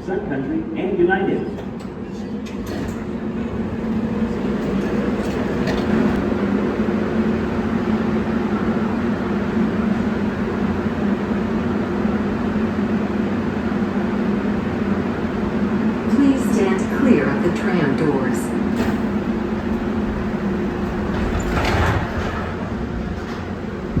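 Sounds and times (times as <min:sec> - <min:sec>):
tram low hum: 0:00.0 - 0:24.0.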